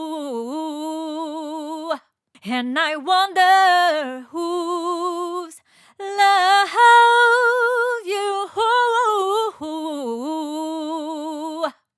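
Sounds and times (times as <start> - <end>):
woman singing unaccompanied: 0.0 - 11.9.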